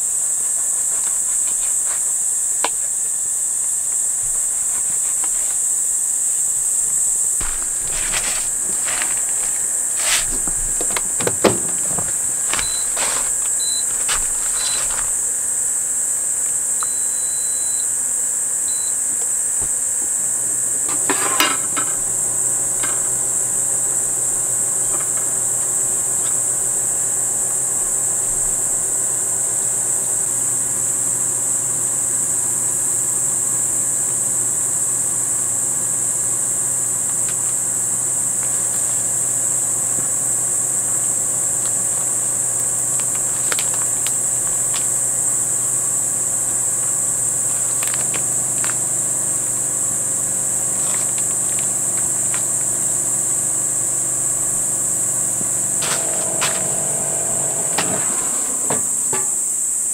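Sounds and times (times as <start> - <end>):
insects chirping chorus: 0.0 - 59.9.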